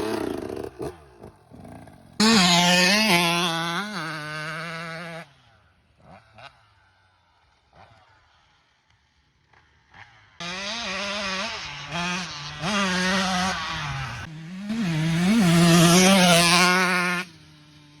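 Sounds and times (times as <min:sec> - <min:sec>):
dirt bike engine revving: 0:00.0 - 0:06.7, 0:09.9 - 0:18.0.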